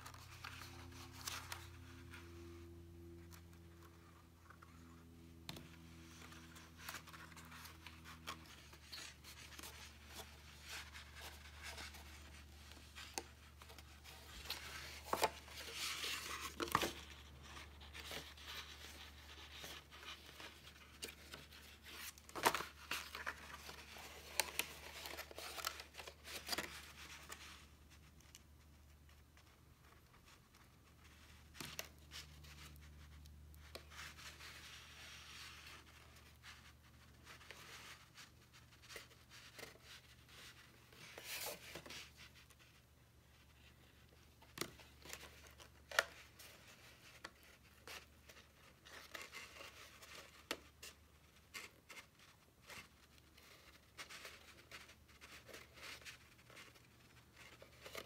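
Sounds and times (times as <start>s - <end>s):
card paper rustling and creasing: 0.0s - 58.0s.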